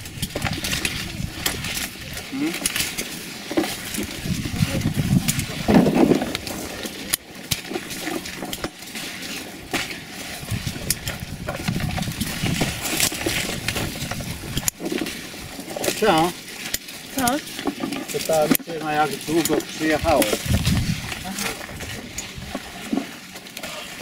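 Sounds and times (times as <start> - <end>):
vine leaves rustling: 0.0 - 24.0.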